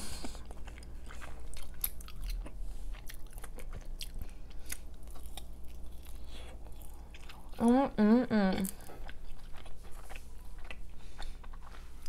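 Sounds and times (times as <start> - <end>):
chewing and mouth clicks: 0.2 - 7.7, 8.6 - 12.0.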